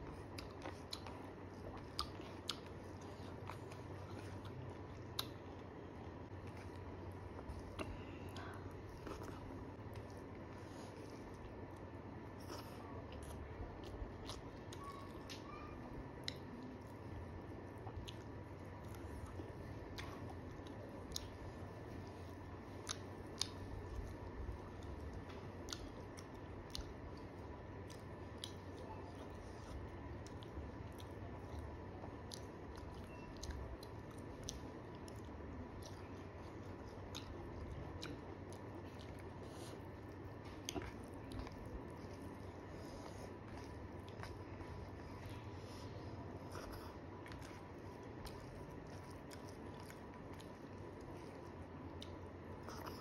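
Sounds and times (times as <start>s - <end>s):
close-up chewing: 0.0s - 53.0s.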